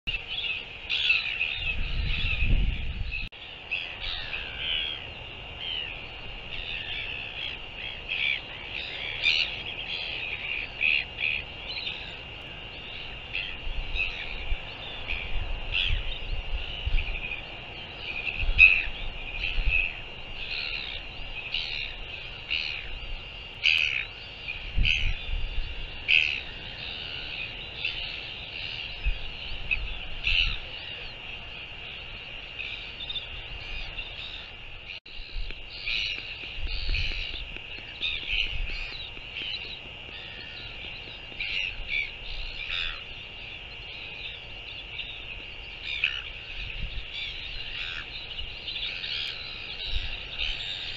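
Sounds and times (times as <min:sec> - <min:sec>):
wind rumbling on microphone: 0:00.0 - 0:50.9
wild birds calling: 0:00.1 - 0:50.9.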